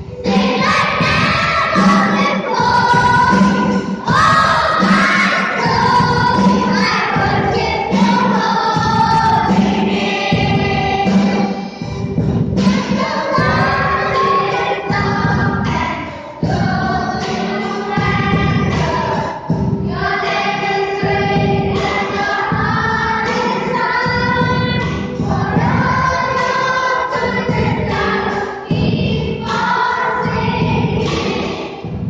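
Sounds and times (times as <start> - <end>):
children's choir singing: 0.0 - 32.0.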